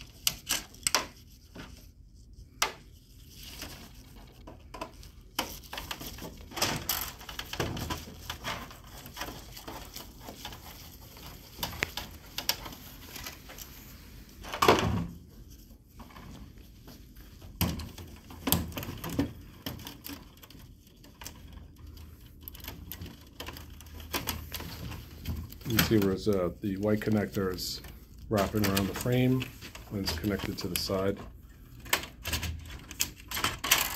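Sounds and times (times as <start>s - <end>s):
printer parts clicking and rattling: 0.0s - 1.9s, 2.6s - 13.8s, 16.0s - 33.9s.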